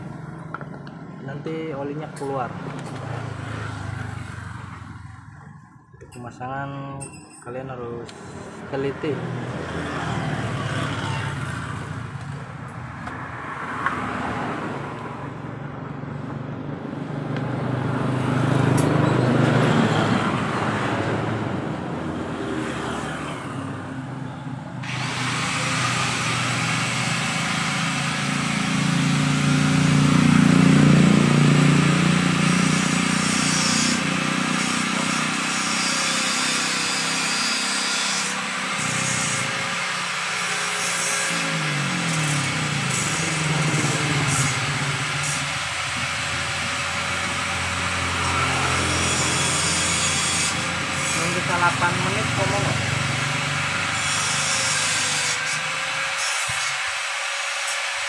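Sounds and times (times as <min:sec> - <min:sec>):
passing vehicle engines: 0:00.0 - 0:06.8, 0:07.7 - 0:35.6, 0:41.4 - 0:55.5.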